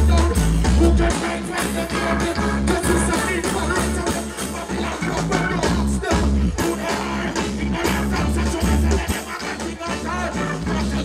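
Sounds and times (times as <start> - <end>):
live reggae band: 0.0 - 11.0
person singing into a microphone: 0.0 - 11.0.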